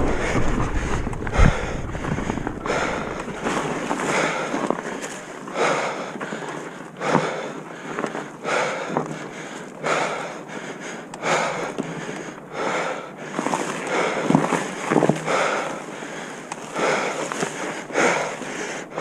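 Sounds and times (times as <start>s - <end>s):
person breathing hard: 0.0s - 19.0s.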